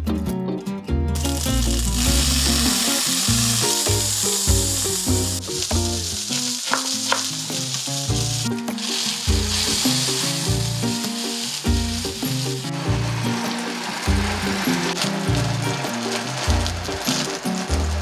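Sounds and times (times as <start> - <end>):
background music with bass: 0.0 - 18.0
fish sizzling in pan: 1.2 - 18.0.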